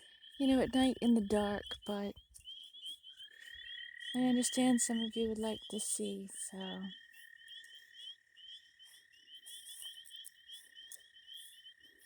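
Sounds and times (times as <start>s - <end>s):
frogs chirping: 0.0s - 12.0s.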